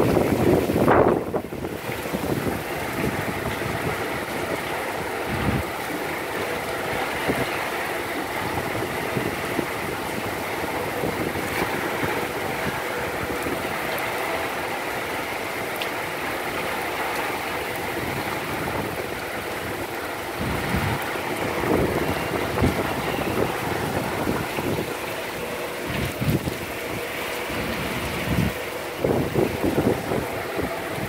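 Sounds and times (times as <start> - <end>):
rain: 0.0 - 31.0
wind: 0.0 - 31.0.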